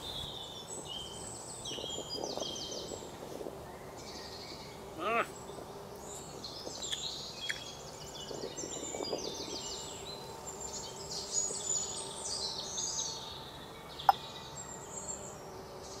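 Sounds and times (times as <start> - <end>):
birds chirping and trilling: 0.0 - 16.0
outdoor background noise: 0.0 - 16.0.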